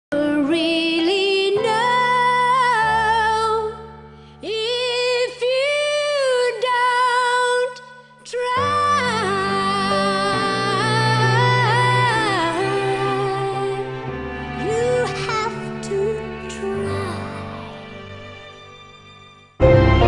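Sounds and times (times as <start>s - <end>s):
woman singing: 0.1s - 14.0s, 14.6s - 17.7s.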